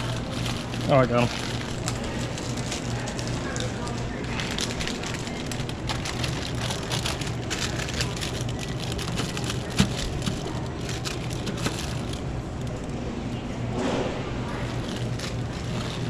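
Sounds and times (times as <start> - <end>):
rustling crackling handling noise: 0.0 - 13.2, 13.8 - 16.0
steady low hum: 0.0 - 16.0.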